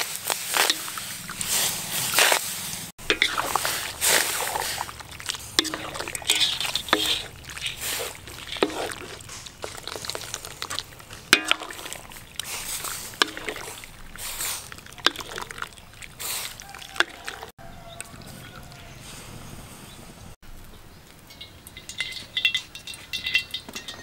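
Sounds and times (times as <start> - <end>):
water sloshing and dripping: 0.1 - 18.7, 20.5 - 24.0.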